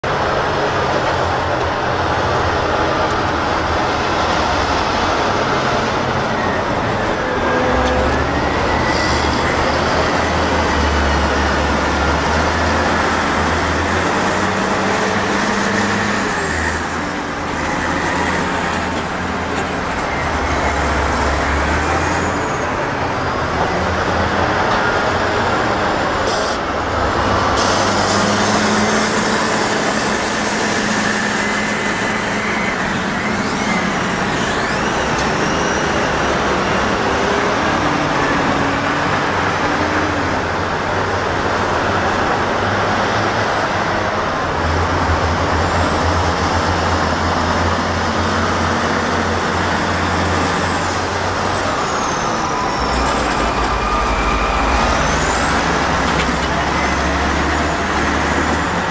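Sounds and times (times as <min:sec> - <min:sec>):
heavy diesel engines under load: 0:00.0 - 0:58.9.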